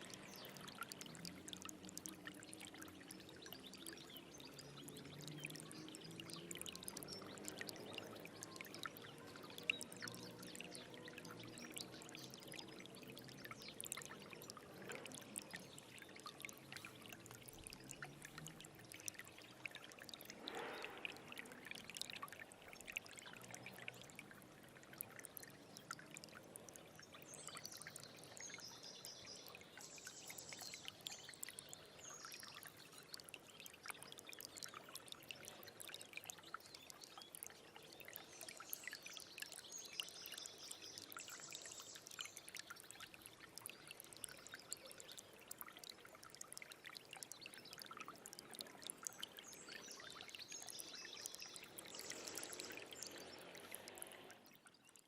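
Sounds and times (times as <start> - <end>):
stream babbling: 0.0 - 55.0
water splashes: 0.0 - 55.0.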